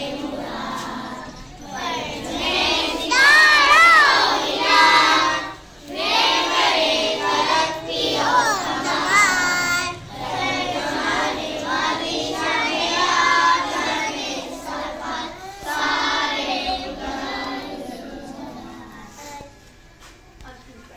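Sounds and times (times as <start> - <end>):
boys singing together: 0.0 - 19.5.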